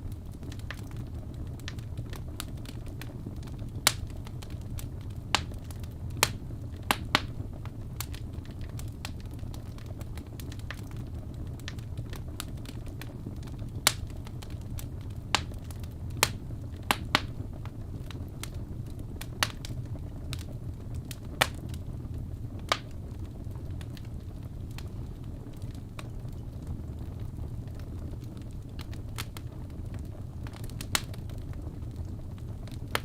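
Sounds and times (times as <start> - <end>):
burning logs crackling and popping: 0.0 - 33.0
low rumble of flame: 0.0 - 33.0.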